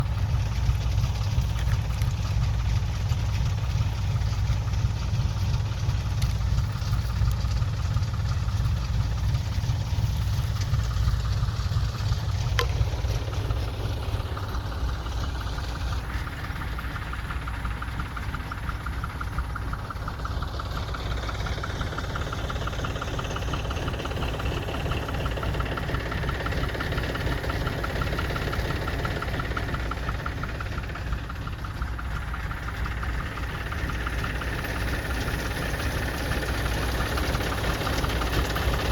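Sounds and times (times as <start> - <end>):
engine running with ticking: 0.0 - 38.9.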